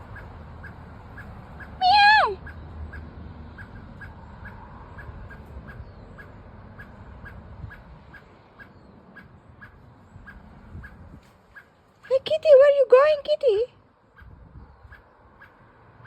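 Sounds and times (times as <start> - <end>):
bird chip calls: 0.0 - 12.6, 13.2 - 15.7.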